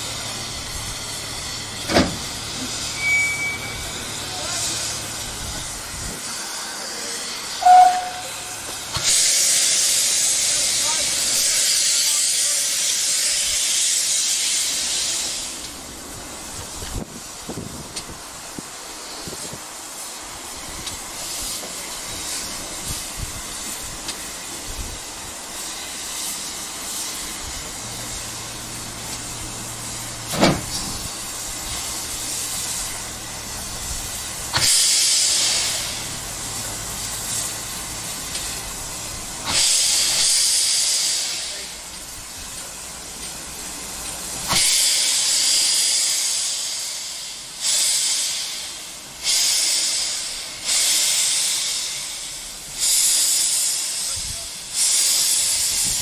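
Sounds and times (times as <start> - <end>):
steam hissing: 0.0 - 56.0
steam locomotive exhaust beats: 0.0 - 56.0.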